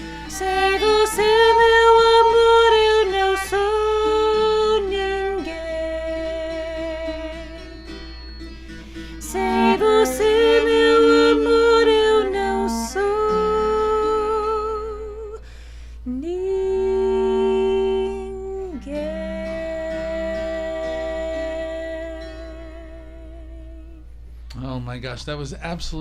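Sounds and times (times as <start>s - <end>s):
person singing with vibrato: 0.0s - 8.2s, 8.8s - 24.2s
acoustic strings: 0.0s - 24.4s.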